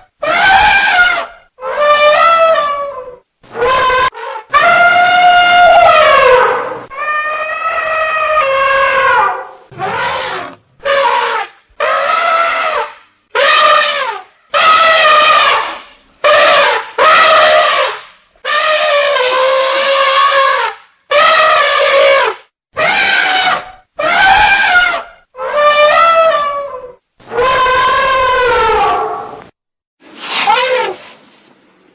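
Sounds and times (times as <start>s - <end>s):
elephant trumpeting: 0.2s - 29.4s, 30.2s - 31.1s.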